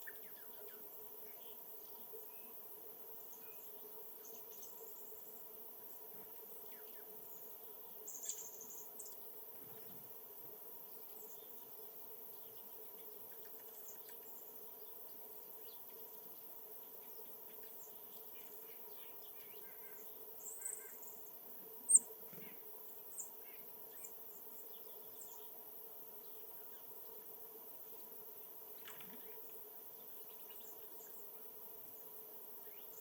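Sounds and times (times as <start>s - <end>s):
small birds chirping: 0.0s - 2.6s, 3.2s - 10.1s, 10.8s - 27.1s, 28.7s - 33.0s
faint steady hum: 0.0s - 33.0s.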